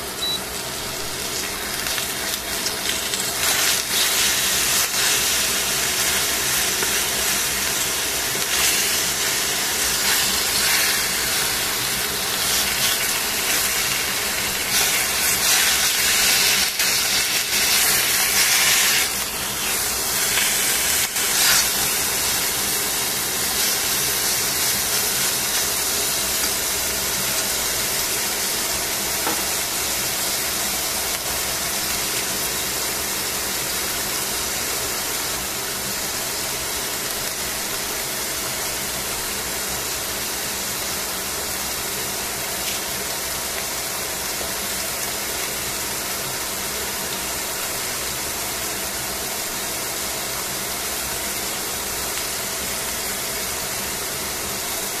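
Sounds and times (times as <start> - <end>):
chicken sizzling in a frying pan: 0.0 - 55.0.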